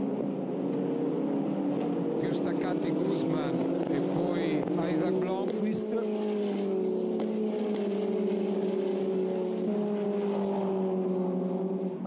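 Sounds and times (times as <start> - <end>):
race car engine running: 0.0 - 12.0.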